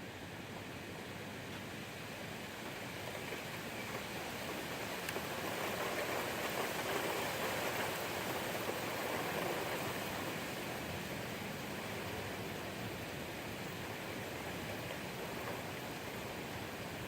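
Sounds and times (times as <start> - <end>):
rain: 0.0 - 17.0
wind: 0.0 - 17.0.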